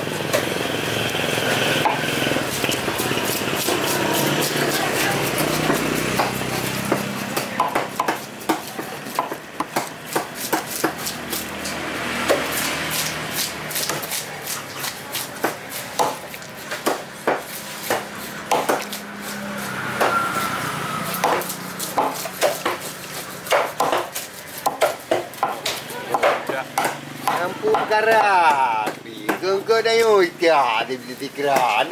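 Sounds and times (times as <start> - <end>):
cleaver chopping on wooden block: 1.8 - 19.0, 21.1 - 29.6.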